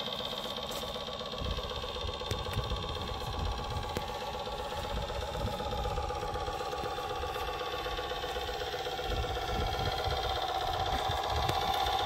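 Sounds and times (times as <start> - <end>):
toy truck engine with knocking pulse: 0.0 - 12.0.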